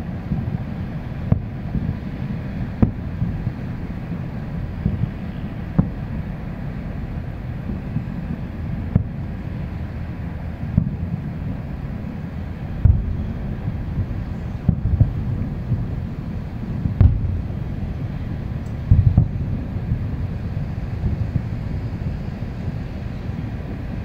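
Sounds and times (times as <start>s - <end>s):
distant firework bangs: 0.0s - 24.0s
wind on microphone: 0.0s - 24.0s.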